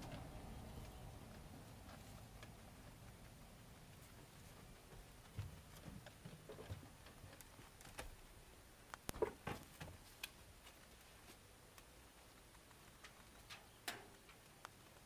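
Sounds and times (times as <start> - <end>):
rabbit chewing greens: 0.0 - 15.0.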